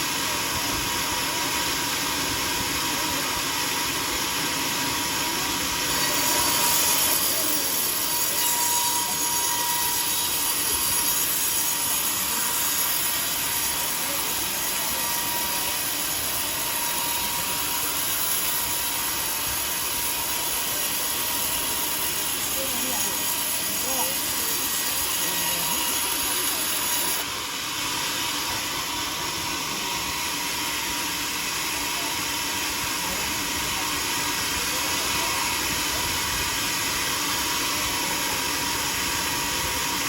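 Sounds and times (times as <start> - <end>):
sawmill saw running: 0.0 - 40.0.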